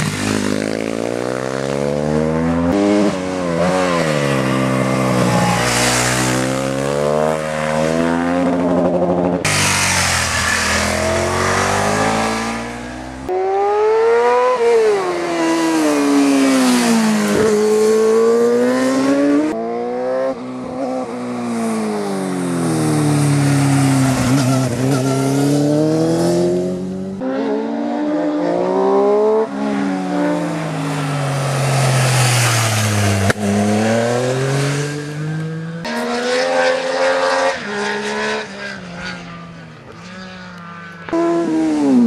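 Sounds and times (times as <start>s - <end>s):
racing motorcycles accelerating: 0.0s - 39.0s, 39.8s - 42.0s.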